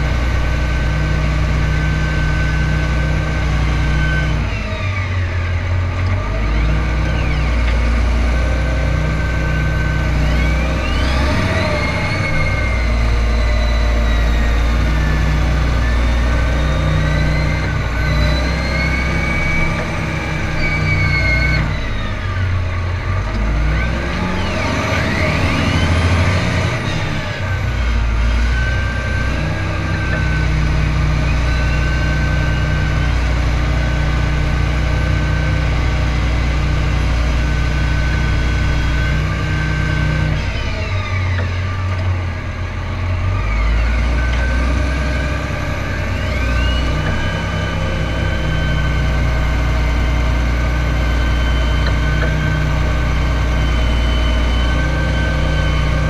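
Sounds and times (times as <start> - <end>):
tractor diesel engine running: 0.0 - 56.0
whine sweeping up and down: 6.2 - 56.0.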